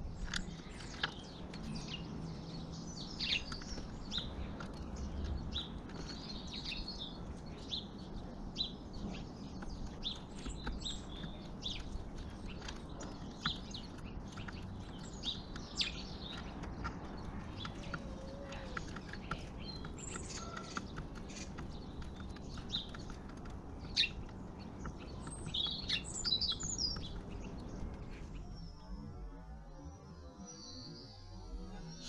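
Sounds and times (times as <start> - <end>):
small songbirds chirping: 0.0 - 32.0.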